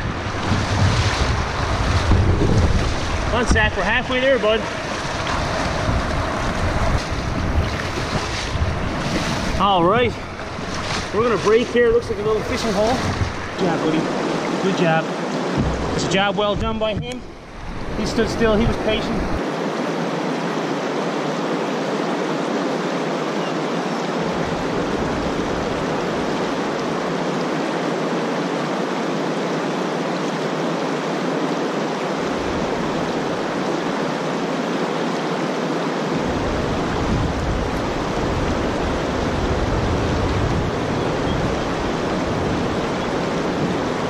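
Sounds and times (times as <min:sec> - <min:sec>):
water rushing over rocks: 0:00.0 - 0:44.0.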